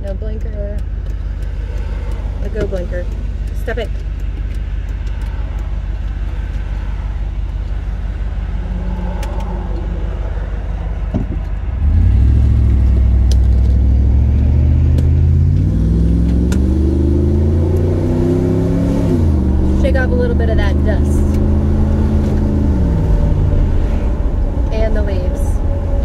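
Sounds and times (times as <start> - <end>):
road noise: 0.0 - 26.0
truck engine accelerating: 0.0 - 26.0.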